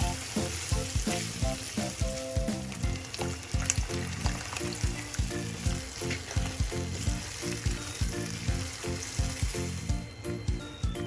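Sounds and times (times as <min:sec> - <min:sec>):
spatula stirring: 0:00.0 - 0:09.8
background music with steady beat: 0:00.0 - 0:11.0
sauce sizzling in frying pan: 0:00.0 - 0:11.0.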